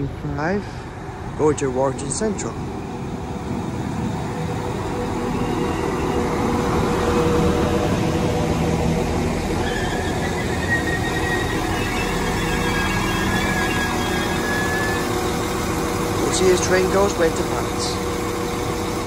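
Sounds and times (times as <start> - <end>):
diesel train arriving: 0.0 - 19.0
high-pitched squeal: 1.4 - 18.9.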